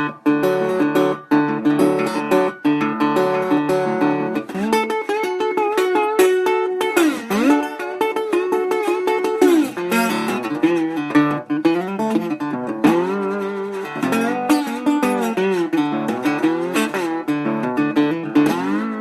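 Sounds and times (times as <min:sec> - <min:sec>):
slide guitar: 0:00.0 - 0:19.0.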